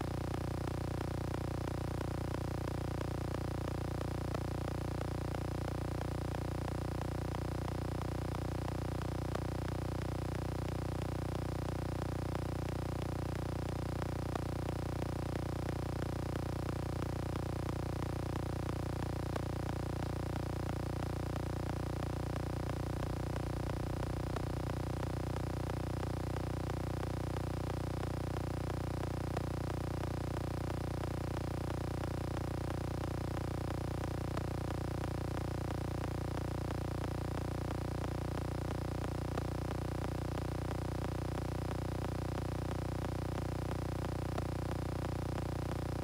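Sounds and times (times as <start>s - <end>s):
low electrical hum: 0.0s - 39.5s.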